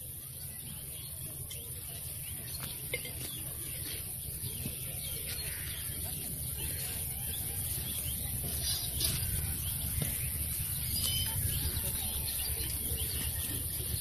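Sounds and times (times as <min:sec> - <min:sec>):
steady low rumble: 0:00.0 - 0:14.0
bird chirps: 0:00.2 - 0:14.0.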